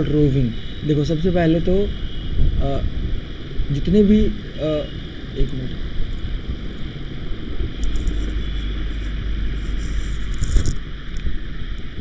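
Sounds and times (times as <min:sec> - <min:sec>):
even hiss: 0:00.0 - 0:12.0
steady low rumble: 0:00.0 - 0:12.0.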